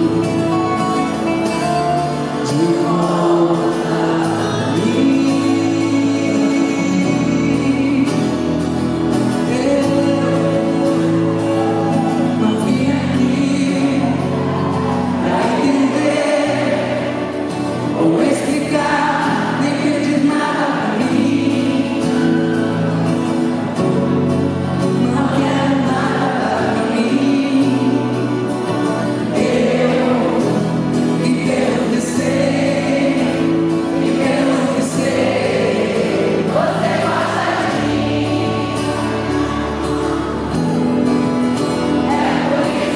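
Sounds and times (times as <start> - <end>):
live band instruments: 0.0 - 42.9
several voices singing together: 2.4 - 8.2, 9.4 - 22.7, 25.0 - 42.9.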